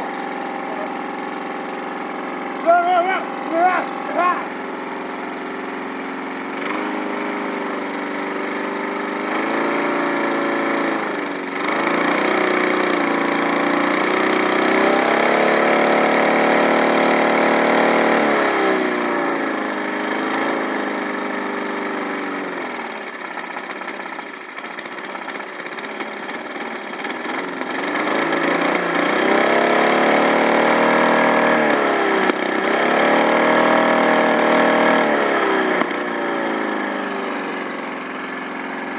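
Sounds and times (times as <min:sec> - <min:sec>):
lawn mower engine revving: 0:00.0 - 0:38.9.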